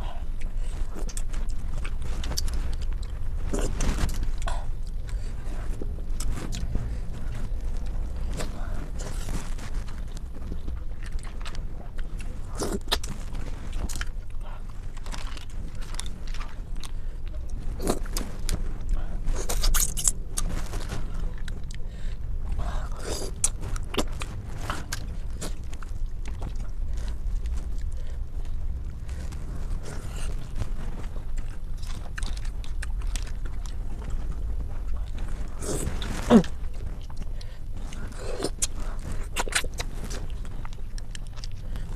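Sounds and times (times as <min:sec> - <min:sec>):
person chewing close up: 0:00.0 - 0:41.9.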